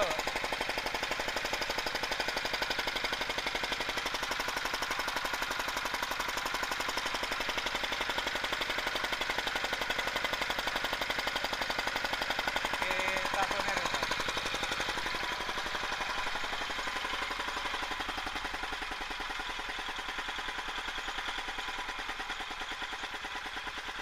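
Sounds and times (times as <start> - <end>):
diesel tractor engine knocking: 0.0 - 24.0.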